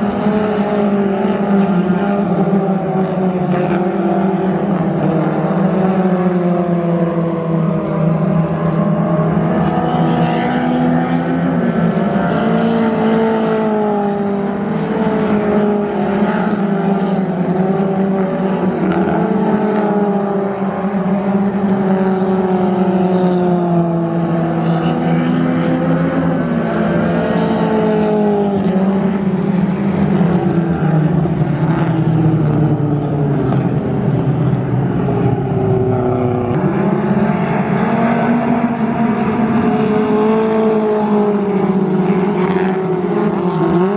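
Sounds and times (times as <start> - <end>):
cars passing by: 0.0 - 43.9
race car engines: 0.0 - 43.9.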